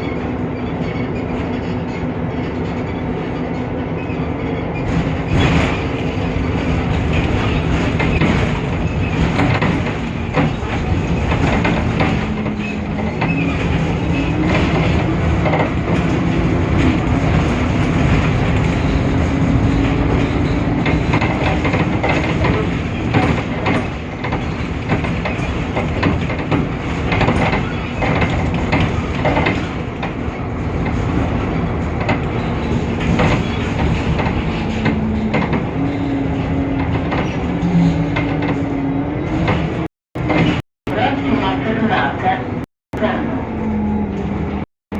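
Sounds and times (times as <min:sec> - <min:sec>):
rattles and knocks: 0:00.0 - 0:40.6
bus diesel engine rumble: 0:00.0 - 0:44.7.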